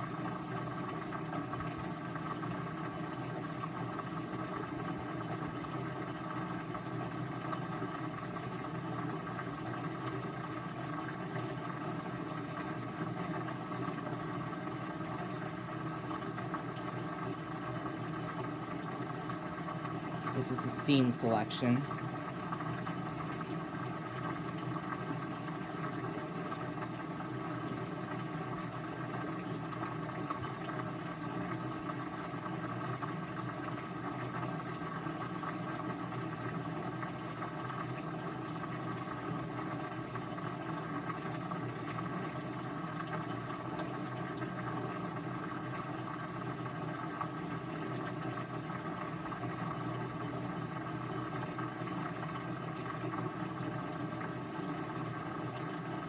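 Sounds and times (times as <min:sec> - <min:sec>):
machine hum with whir: 0:00.0 - 0:56.0.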